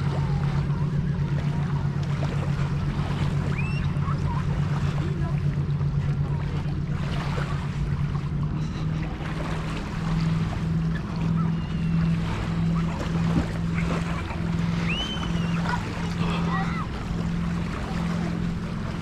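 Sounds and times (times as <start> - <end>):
pulsing low hum: 0.0 - 19.0
surf: 0.0 - 19.0.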